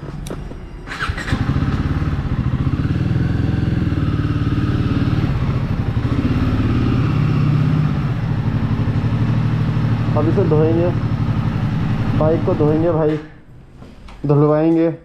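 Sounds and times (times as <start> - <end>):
motorcycle engine starting and running: 0.0 - 13.8.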